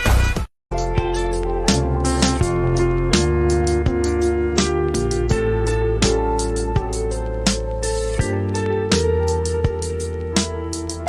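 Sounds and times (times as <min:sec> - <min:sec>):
plucked guitar music with bass beat: 0:00.7 - 0:11.0.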